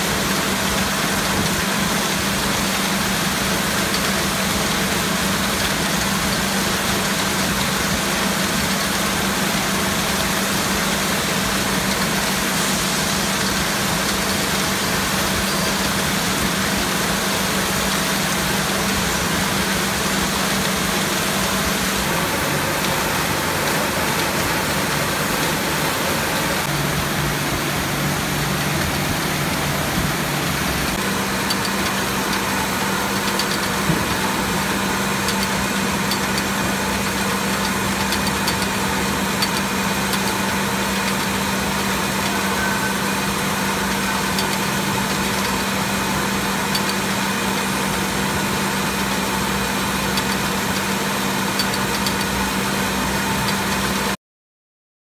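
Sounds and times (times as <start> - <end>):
low machine hum: 0.0 - 54.2
packing machinery whirring: 3.2 - 54.1.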